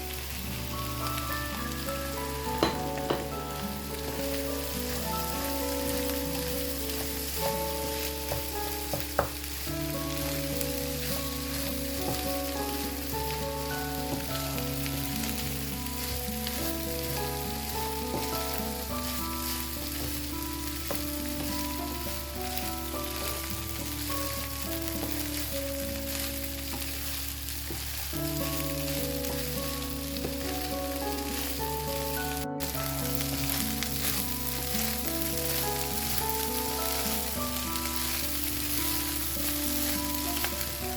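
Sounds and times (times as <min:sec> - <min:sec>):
rice sizzling in a pan: 0:00.0 - 0:40.9.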